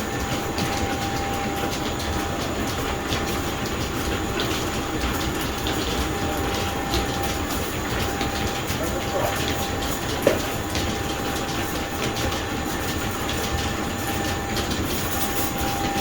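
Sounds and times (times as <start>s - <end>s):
belt-driven machinery clattering: 0.0s - 16.0s
constant hum: 0.0s - 16.0s.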